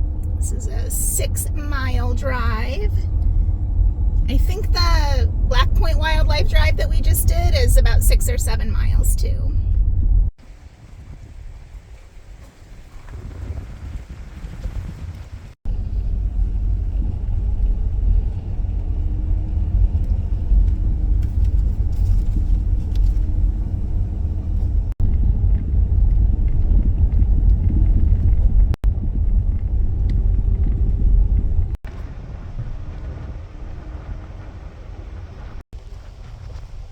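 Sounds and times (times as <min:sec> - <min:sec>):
minivan engine and road noise: 0:00.0 - 0:13.1, 0:14.7 - 0:36.9.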